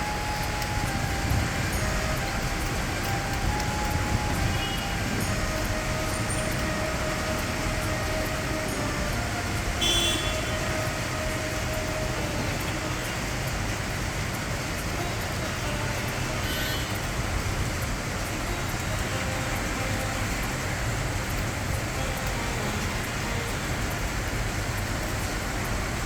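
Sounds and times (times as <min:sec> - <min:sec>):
car road noise: 0:00.0 - 0:26.0.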